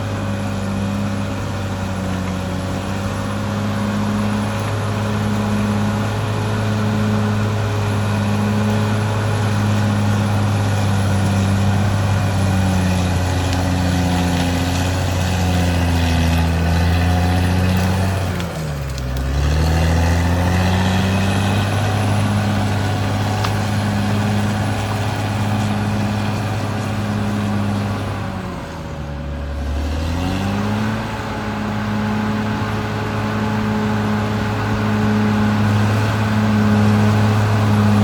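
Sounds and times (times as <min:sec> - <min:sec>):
bulldozer diesel engine working: 0:00.0 - 0:38.0.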